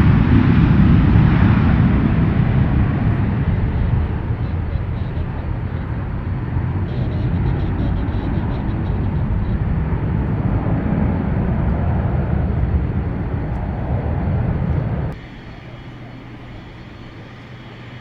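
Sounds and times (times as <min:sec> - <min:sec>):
airliner engines running: 0:00.0 - 0:18.0.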